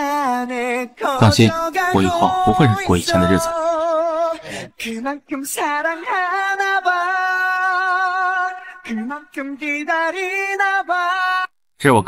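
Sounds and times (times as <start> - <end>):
person singing with vibrato: 0.0 - 11.6.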